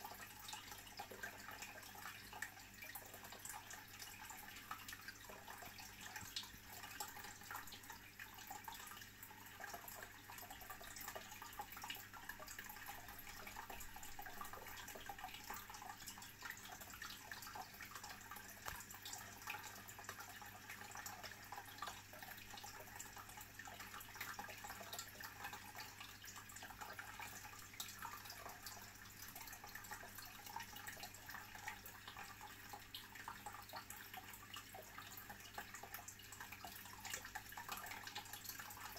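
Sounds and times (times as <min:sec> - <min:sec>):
aquarium water trickling and bubbling: 0:00.0 - 0:38.9.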